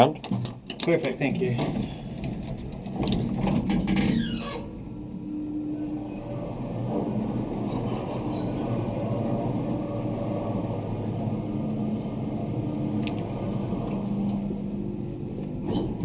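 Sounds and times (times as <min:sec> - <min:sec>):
elevator cab rumble: 0:00.6 - 0:16.0.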